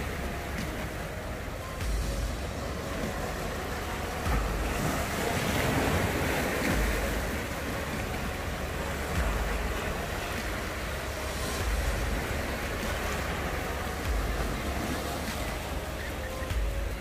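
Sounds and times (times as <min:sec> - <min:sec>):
waves splashing over rocks: 0:00.0 - 0:17.0
wind buffeting microphone: 0:00.0 - 0:17.0.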